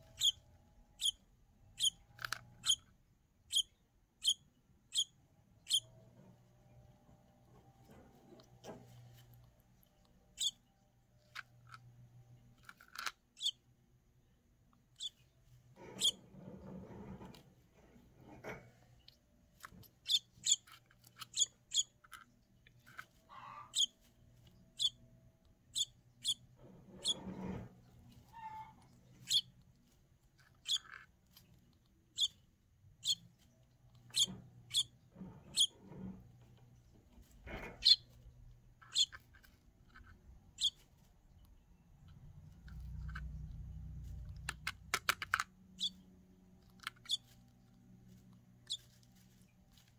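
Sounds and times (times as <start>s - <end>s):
baby bird peeping: 0.0s - 5.9s, 10.0s - 11.8s, 12.9s - 13.7s, 14.9s - 17.3s, 19.6s - 24.0s, 24.6s - 49.4s.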